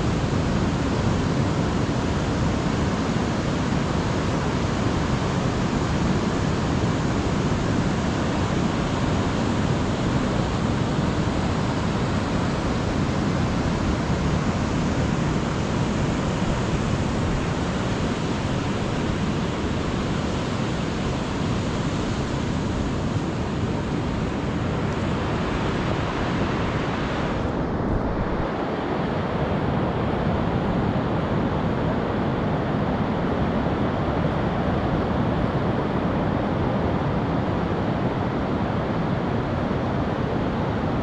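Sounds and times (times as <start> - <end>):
ocean surf: 0.0 - 41.0
wind on microphone: 0.0 - 41.0.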